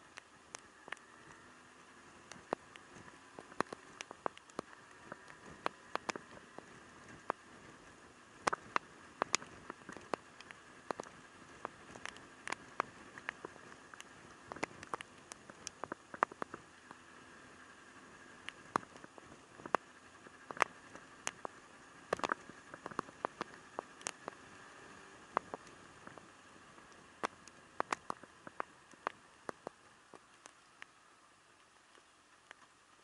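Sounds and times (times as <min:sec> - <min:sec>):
raindrops tapping: 0:00.0 - 0:01.5, 0:02.2 - 0:07.8, 0:08.4 - 0:17.1, 0:18.2 - 0:31.0
faint steady hiss: 0:00.0 - 0:33.0.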